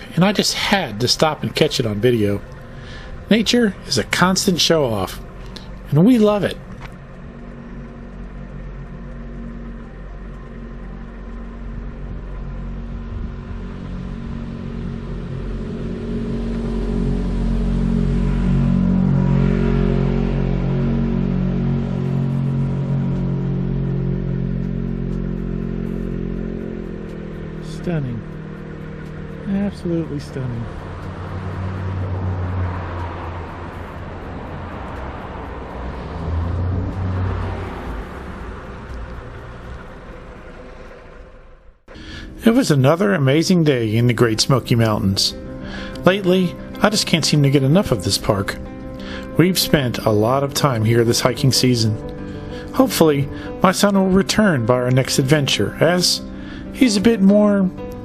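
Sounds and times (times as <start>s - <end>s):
car engine running: 0.0s - 58.0s
road noise: 0.0s - 58.0s.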